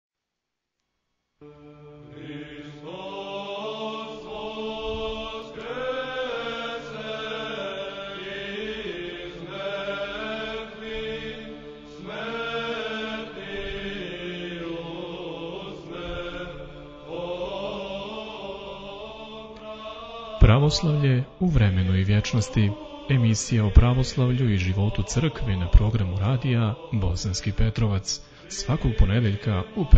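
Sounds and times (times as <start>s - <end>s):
held vocal drone: 1.4s - 29.9s
voices chanting: 2.0s - 29.9s.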